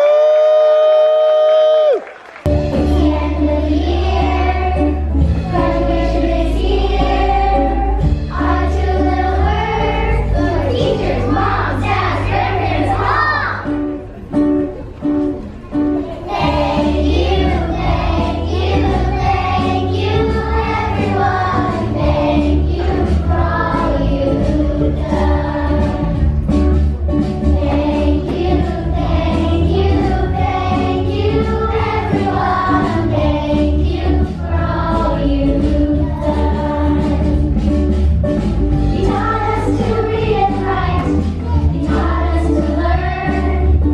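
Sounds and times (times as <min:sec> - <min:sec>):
song with group singing: 0:02.6 - 0:13.4, 0:16.1 - 0:43.9.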